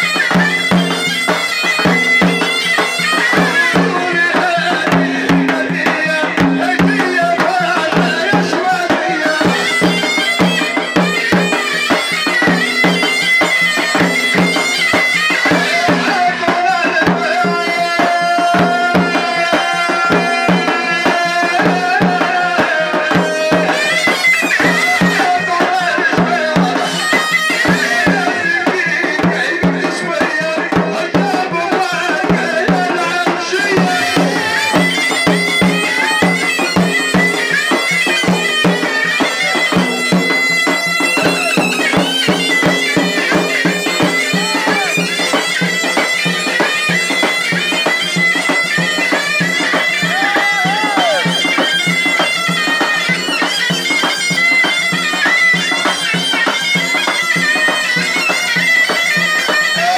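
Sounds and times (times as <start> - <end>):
reedy wind instrument melody: 0.0 - 29.5, 31.9 - 59.9
hand drum beats: 0.0 - 59.9.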